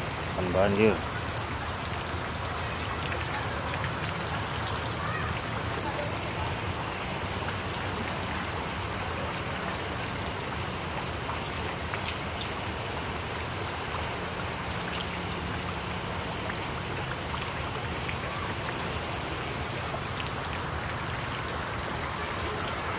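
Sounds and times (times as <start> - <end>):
rain falling on standing water: 0.0 - 22.9.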